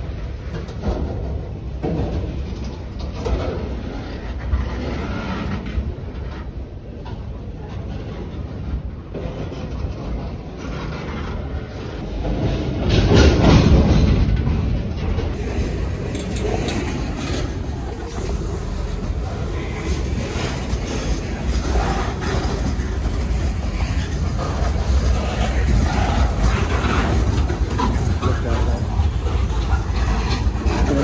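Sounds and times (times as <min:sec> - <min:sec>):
freight train wheels rumbling: 0:00.0 - 0:31.0
wheel clacks: 0:00.0 - 0:31.0.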